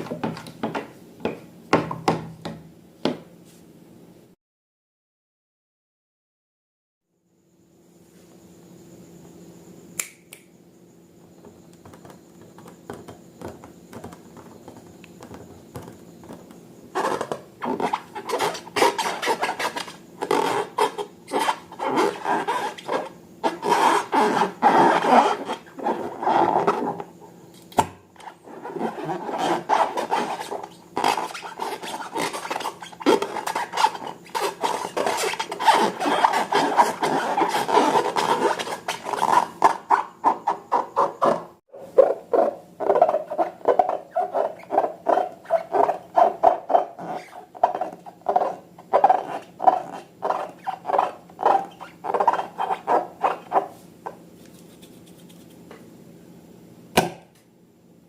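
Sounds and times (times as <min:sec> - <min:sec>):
faint hum: 0:07.1 - 0:46.4, 0:47.0 - 0:58.0.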